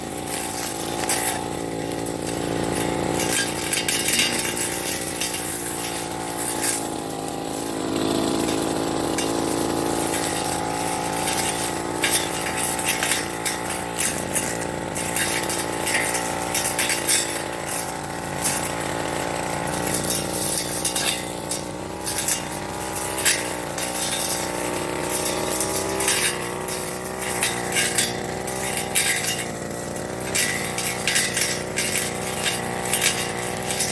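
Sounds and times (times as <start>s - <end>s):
blade clicking and clinking: 0.0s - 33.9s
brush cutter engine running: 0.0s - 33.9s.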